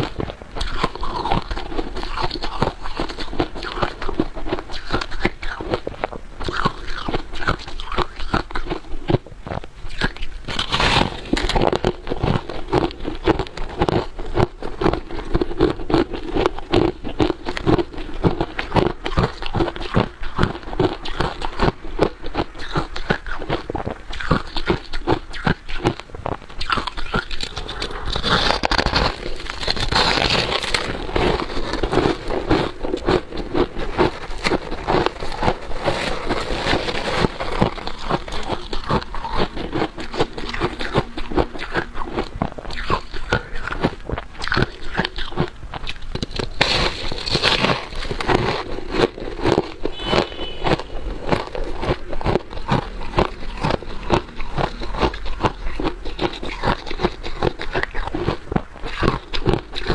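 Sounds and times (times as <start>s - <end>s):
ice being chewed crunching: 0.0s - 59.9s.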